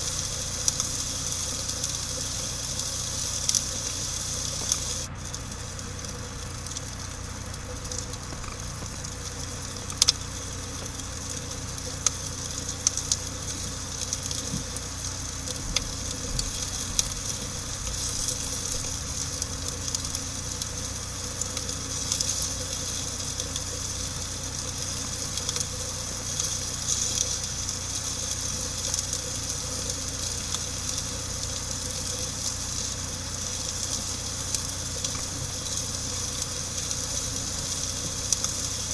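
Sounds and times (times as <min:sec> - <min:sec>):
campfire hissing and crackling: 0:00.0 - 0:38.9.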